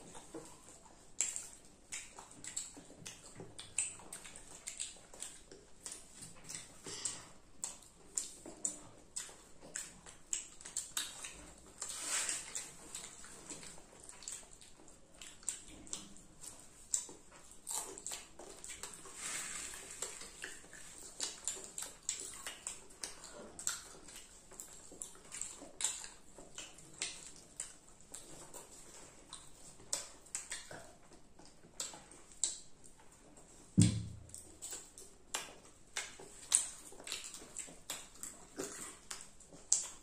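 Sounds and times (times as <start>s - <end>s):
children chewing popcorn: 0.0s - 40.0s.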